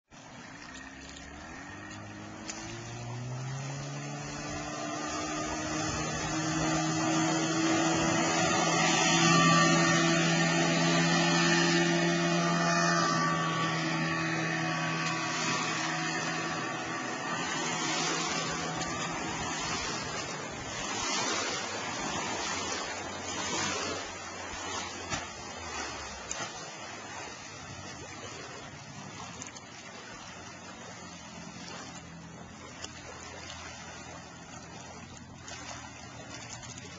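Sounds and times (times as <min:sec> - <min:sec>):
outboard motor: 0:00.0 - 0:36.9
wave wash and splashing: 0:00.1 - 0:36.9.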